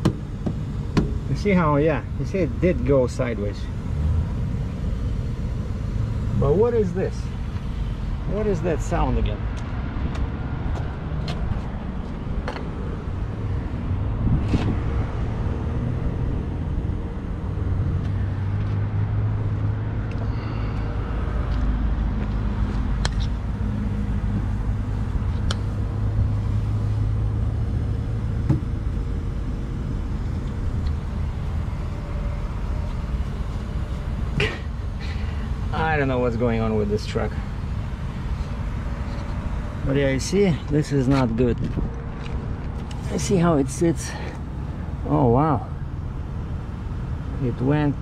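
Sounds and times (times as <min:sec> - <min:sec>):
diesel truck engine idling: 0:00.0 - 0:48.0.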